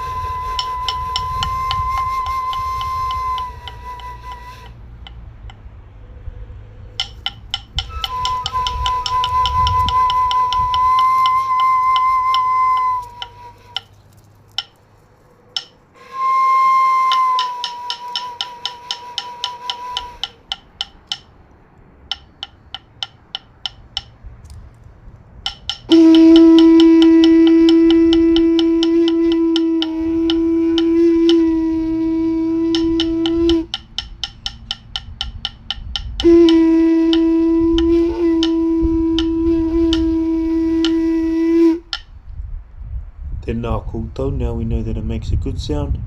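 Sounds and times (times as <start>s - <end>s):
seashell trumpet blasts: 0.0s - 14.8s, 15.4s - 24.7s, 25.4s - 42.4s.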